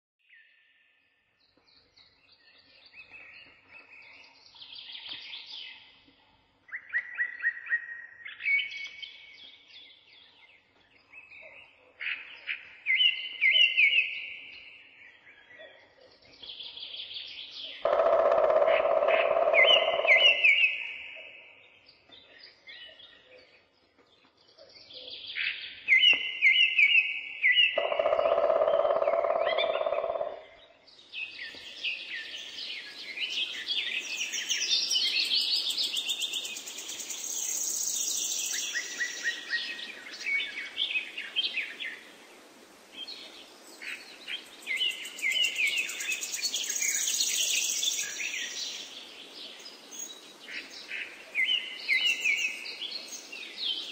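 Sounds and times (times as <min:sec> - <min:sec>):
birds chirping and trilling: 0:01.4 - 0:53.9.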